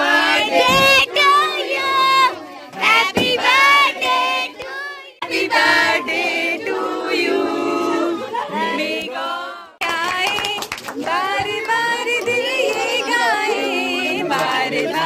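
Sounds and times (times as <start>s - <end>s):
group of voices singing: 0.0s - 15.0s.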